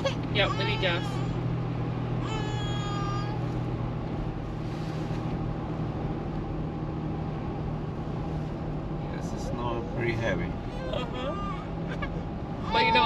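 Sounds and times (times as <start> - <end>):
engine and road hum: 0.0 - 13.0.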